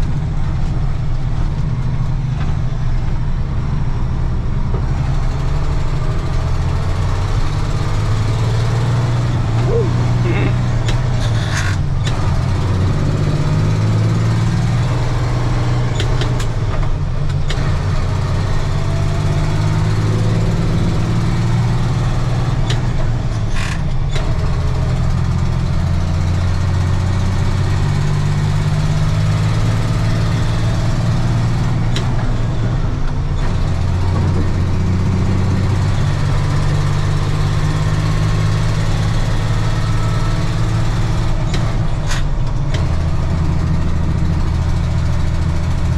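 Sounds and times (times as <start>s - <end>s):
truck diesel engine droning: 0.0s - 45.9s.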